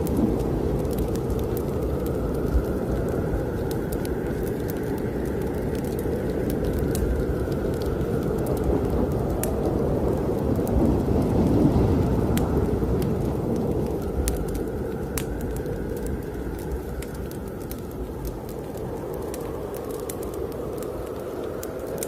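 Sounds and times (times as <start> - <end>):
snowstorm wind blowing: 0.0 - 22.0
wood fire crackling: 0.0 - 22.0.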